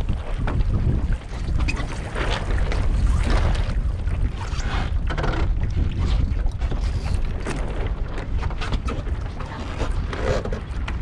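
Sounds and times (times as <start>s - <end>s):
water splashing against hull: 0.0s - 11.0s
wind buffeting microphone: 0.0s - 11.0s.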